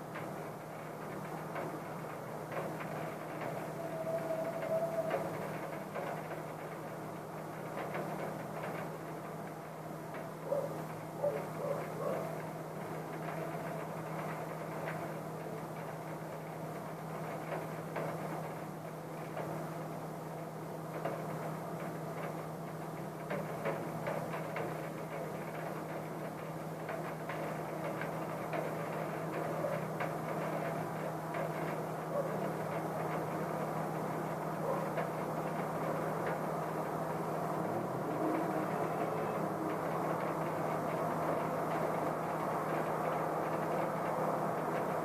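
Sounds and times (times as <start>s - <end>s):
constant low hum: 0.0s - 45.0s
muffled steady rain: 0.0s - 45.0s.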